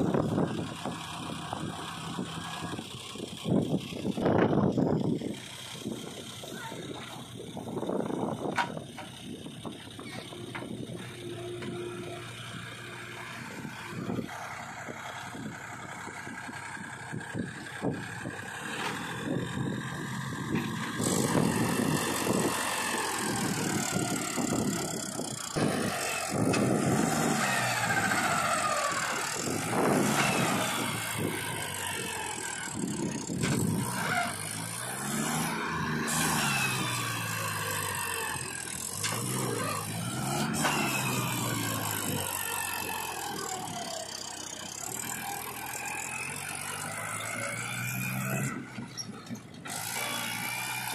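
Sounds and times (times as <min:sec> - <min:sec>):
tractor diesel engine labouring: 0:00.0 - 0:50.9.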